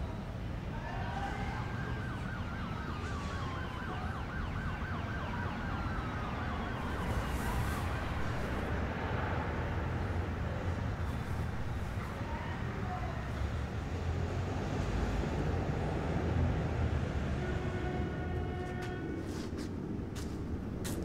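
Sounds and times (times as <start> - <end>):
emergency vehicle siren: 0.0 - 19.5
low traffic rumble: 0.0 - 21.0.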